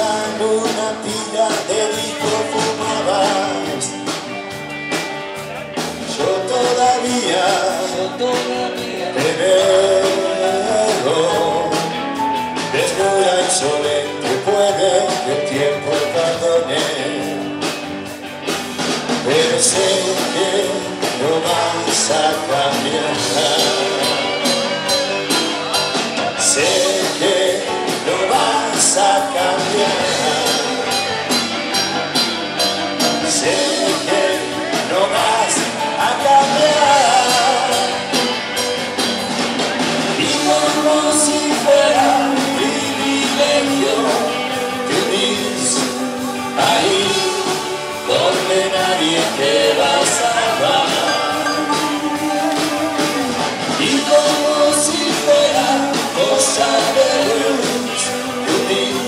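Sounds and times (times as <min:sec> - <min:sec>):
man singing into a microphone: 0:00.0 - 0:04.4, 0:06.0 - 0:17.8, 0:19.1 - 0:31.8, 0:33.0 - 0:38.7, 0:39.7 - 0:59.0
drums and cymbals: 0:00.0 - 0:59.0
rock band playing: 0:00.0 - 0:59.0.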